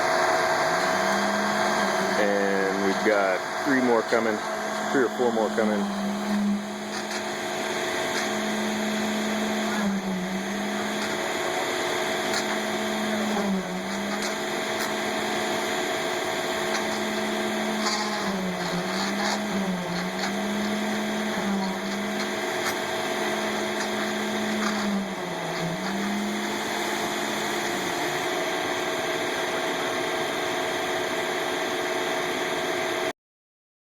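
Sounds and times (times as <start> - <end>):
heavy truck engine droning: 0.0 - 33.1.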